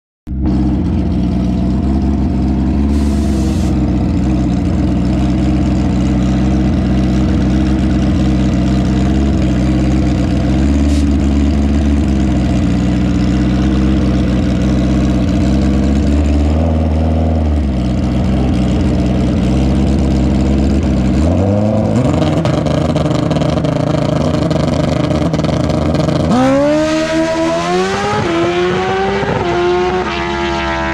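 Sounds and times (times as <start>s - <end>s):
motorcycle engine revving: 0.3s - 30.9s.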